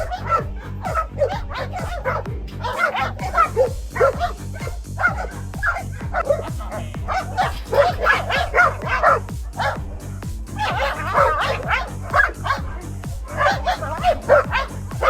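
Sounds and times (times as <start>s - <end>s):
dog yipping and whining: 0.0s - 6.5s, 7.1s - 9.8s, 10.6s - 12.7s, 13.4s - 15.0s
fast beat background music: 0.0s - 15.0s.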